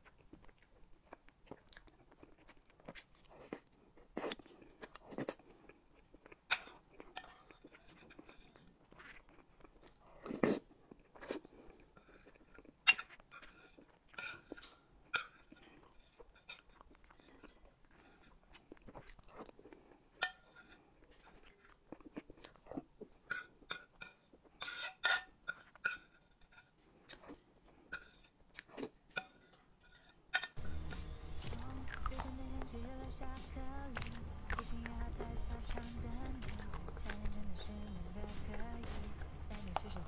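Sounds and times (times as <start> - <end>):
wet chewing and lip smacks: 0.0 - 24.6, 31.0 - 39.9.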